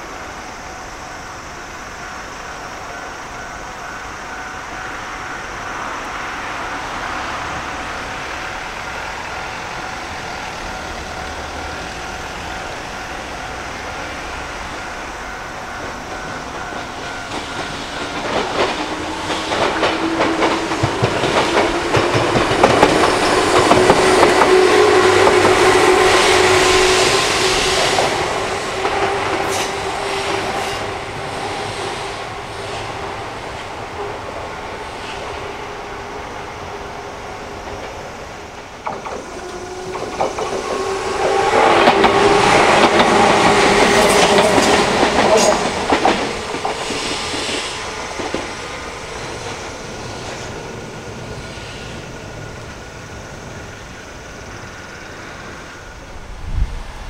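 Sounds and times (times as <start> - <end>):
electric train humming: 0.0 - 57.0
train whine: 0.0 - 57.0.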